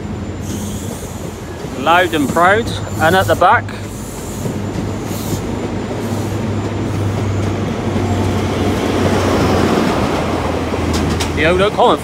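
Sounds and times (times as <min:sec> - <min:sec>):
train coaches rolling: 0:00.0 - 0:12.0
train diesel engines working: 0:00.0 - 0:12.0.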